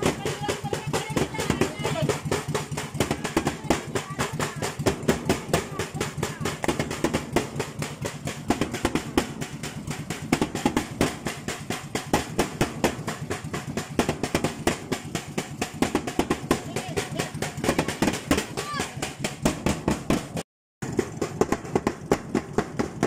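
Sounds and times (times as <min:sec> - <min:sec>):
steady rhythmic knocking: 0:00.0 - 0:23.0.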